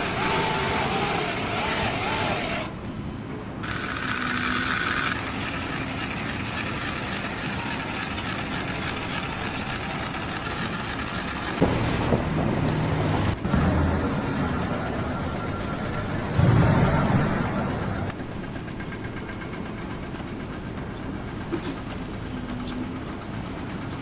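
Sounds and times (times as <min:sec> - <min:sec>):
construction machinery engine noise: 0:00.0 - 0:24.0.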